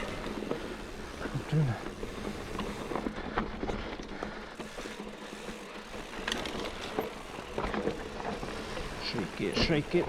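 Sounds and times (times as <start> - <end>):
bike clicks and rattles: 0.0 - 10.0
bike tyres on dirt trail: 0.0 - 10.0.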